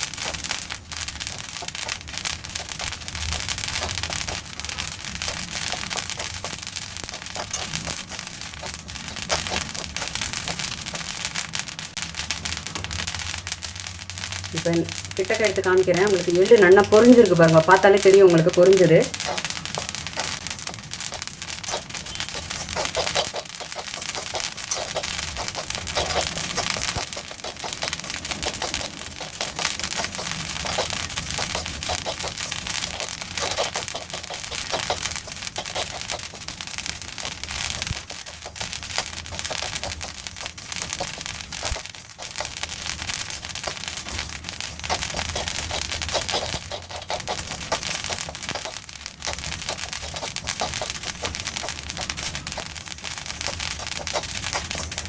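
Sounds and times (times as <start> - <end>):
seeds popping in a pan: 0.0 - 55.0.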